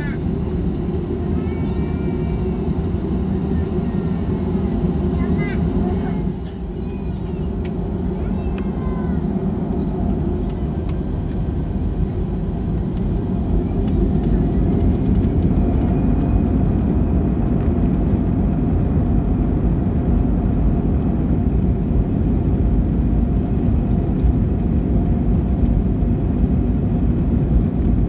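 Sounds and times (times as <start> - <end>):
faint engine whine: 0.0 - 28.0
jet engines rumbling: 0.0 - 28.0.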